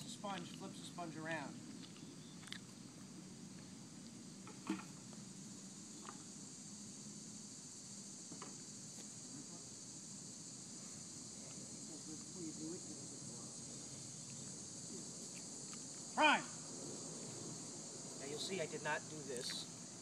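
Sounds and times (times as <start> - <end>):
high insect chirring: 0.0 - 20.0.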